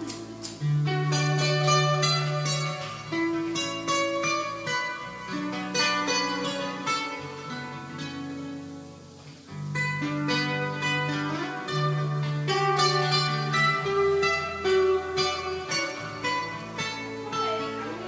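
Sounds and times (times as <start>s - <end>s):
plucked-string instrumental music: 0.0s - 18.0s.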